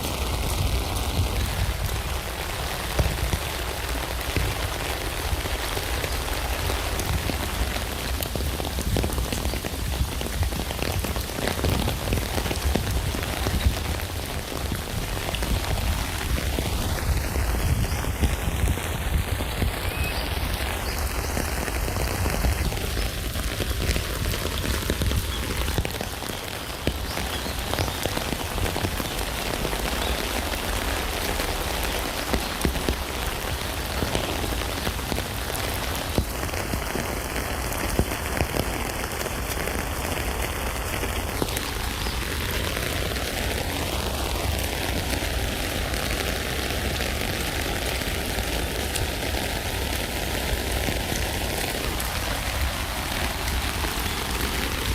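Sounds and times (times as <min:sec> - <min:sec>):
rain falling on a tent: 0:00.0 - 0:54.9.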